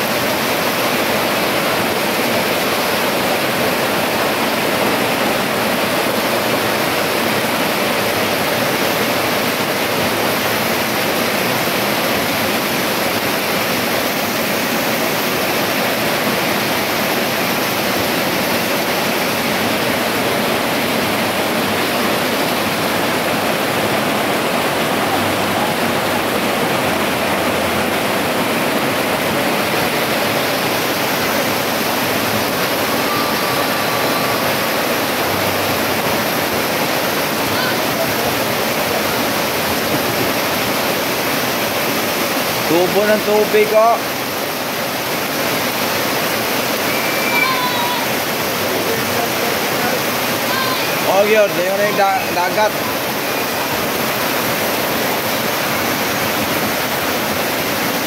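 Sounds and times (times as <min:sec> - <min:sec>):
heavy rain on flooded street: 0:00.0 - 0:58.0.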